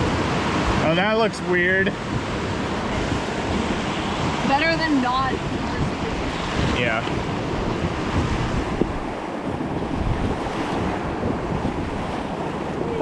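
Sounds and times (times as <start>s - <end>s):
river current rushing: 0.0s - 13.0s
wind buffeting microphone: 0.0s - 13.0s.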